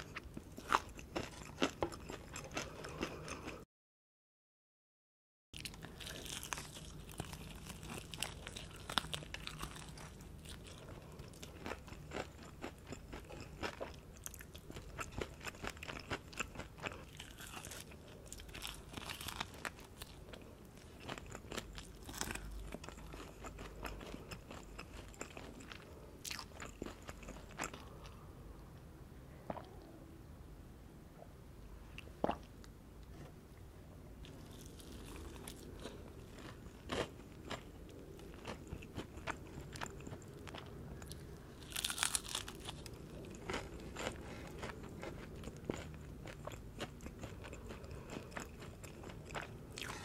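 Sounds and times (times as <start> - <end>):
crunching and chewing fried chicken: 0.0 - 3.6, 5.6 - 28.2, 34.2 - 50.0.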